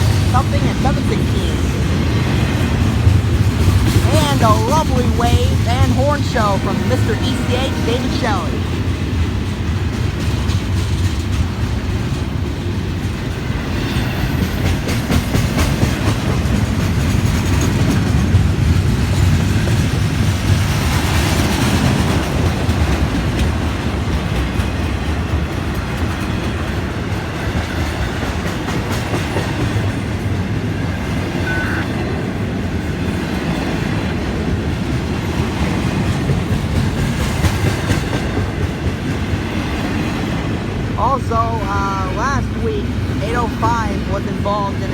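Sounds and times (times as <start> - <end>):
train cars rumbling past: 0.0 - 44.9.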